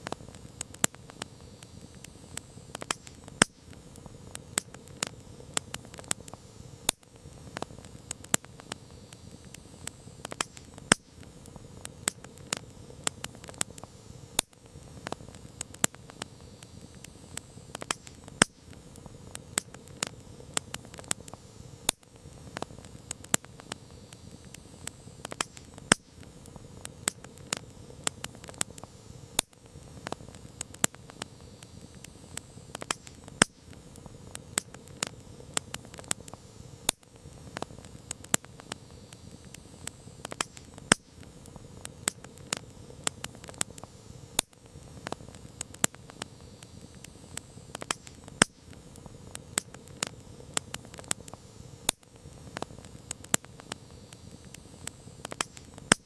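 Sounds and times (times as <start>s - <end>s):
campfire crackling: 0.0s - 56.0s
hiss of flames: 0.0s - 56.0s.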